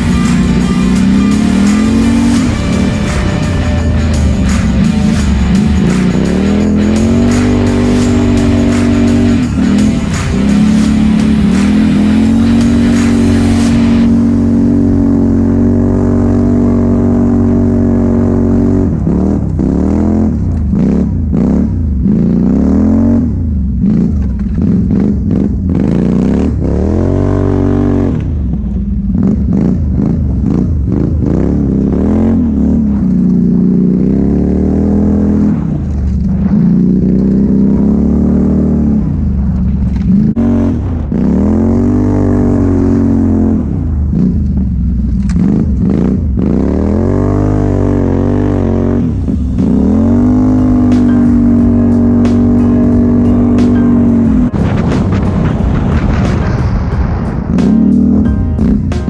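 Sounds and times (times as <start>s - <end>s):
quad engine revving: 0.0s - 56.5s.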